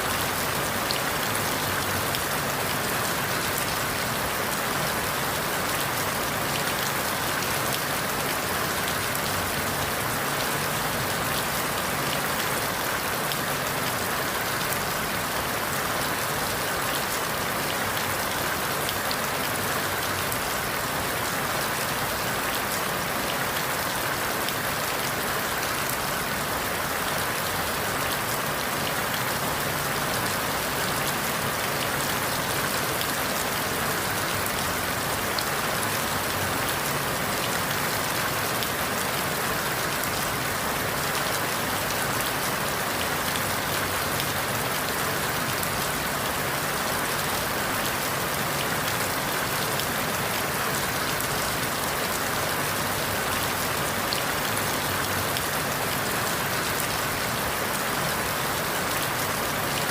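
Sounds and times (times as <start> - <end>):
rain falling through leaves: 0.0 - 59.9.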